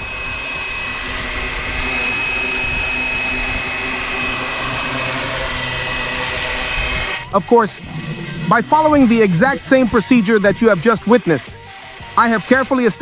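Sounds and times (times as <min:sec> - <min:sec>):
helicopter rotors whirring: 0:00.0 - 0:13.0
high motor whine: 0:00.0 - 0:13.0.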